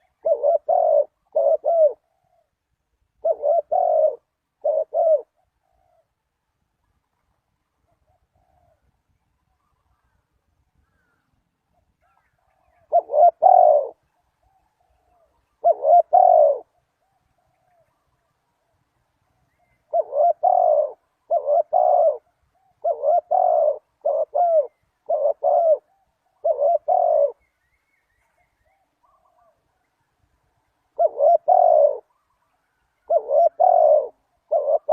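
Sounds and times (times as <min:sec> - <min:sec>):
dove cooing: 0:00.0 - 0:06.2, 0:07.8 - 0:09.0, 0:10.8 - 0:18.4, 0:19.5 - 0:27.5, 0:28.1 - 0:30.0, 0:30.8 - 0:34.9.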